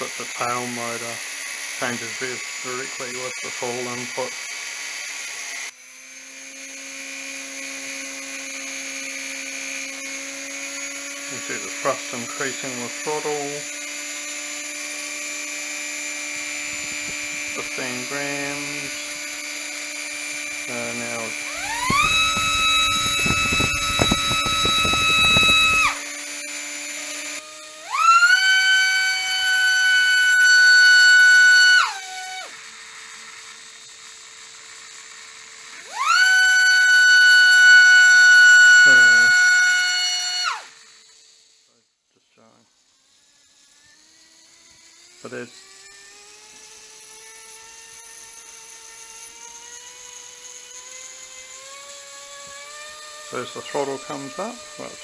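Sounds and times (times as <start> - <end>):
rc helicopter motors whining: 0.0 - 55.0.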